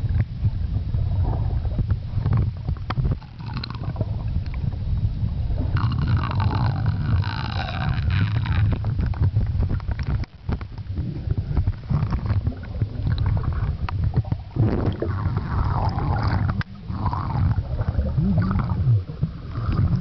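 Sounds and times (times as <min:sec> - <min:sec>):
underwater gurgling rumble: 0:00.0 - 0:20.0
bubbling clicks: 0:01.8 - 0:04.8, 0:05.6 - 0:20.0.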